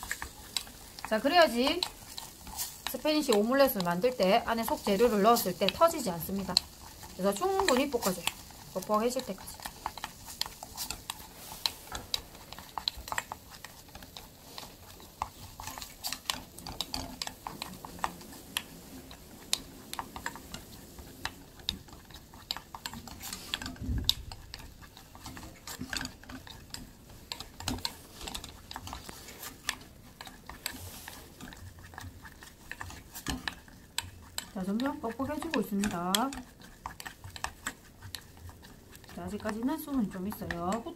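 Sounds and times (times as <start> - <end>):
wooden spoon scraping a saucepan: 0.0 - 40.9.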